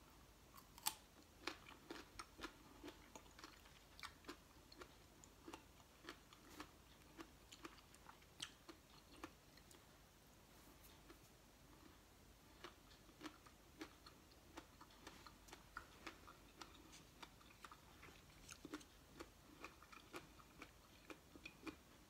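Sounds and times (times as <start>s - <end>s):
person chewing crisp food: 0.6s - 9.9s, 10.9s - 22.0s.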